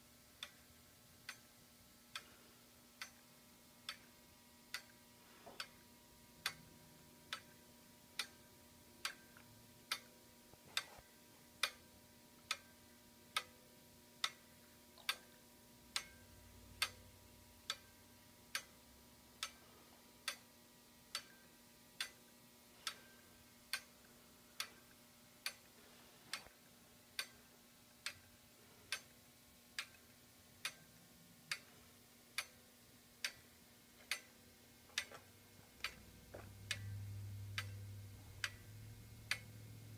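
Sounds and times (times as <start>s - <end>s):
clockwork mechanism ticking: 0.3s - 39.9s.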